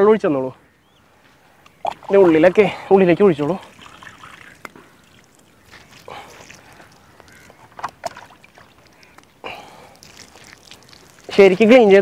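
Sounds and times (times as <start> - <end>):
water splashing and trickling: 1.4 - 12.0.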